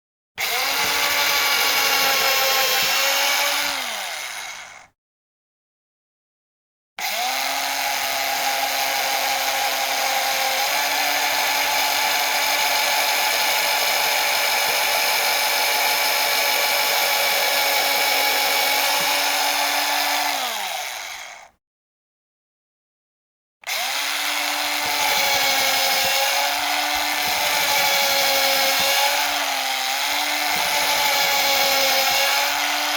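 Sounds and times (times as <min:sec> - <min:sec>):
hammer drill motor whining: 0:00.4 - 0:05.0, 0:07.0 - 0:21.6, 0:23.6 - 0:32.9.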